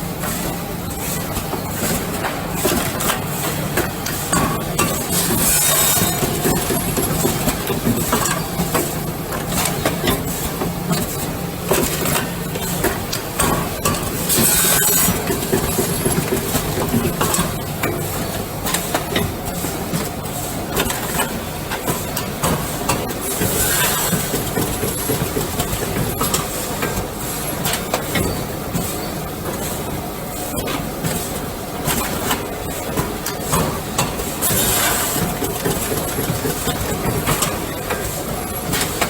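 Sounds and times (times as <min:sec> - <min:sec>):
packing machine running: 0:00.0 - 0:39.0
machine clicks and knocks: 0:01.4 - 0:29.8, 0:30.5 - 0:39.0.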